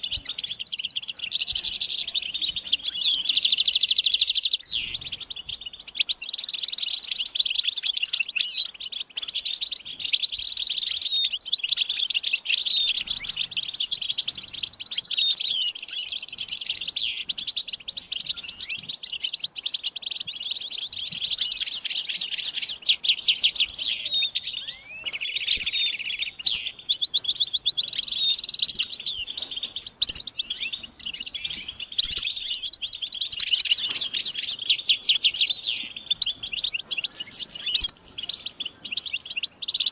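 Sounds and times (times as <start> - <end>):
fast rattling bird trills: 0.0 - 39.9
goldfinches chattering and singing: 0.0 - 39.9.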